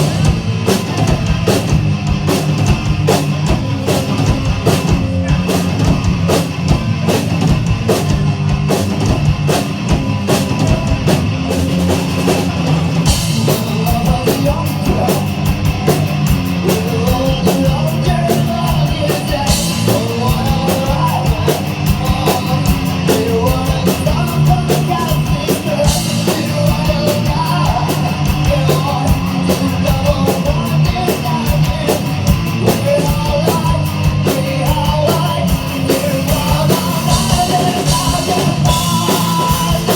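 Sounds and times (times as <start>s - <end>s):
fast drum kit: 0.0s - 39.9s
heavy metal music: 0.0s - 39.9s.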